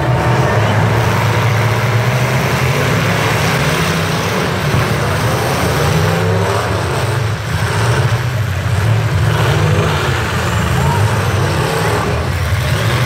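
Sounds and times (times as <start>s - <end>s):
truck engines rumbling: 0.0s - 13.0s.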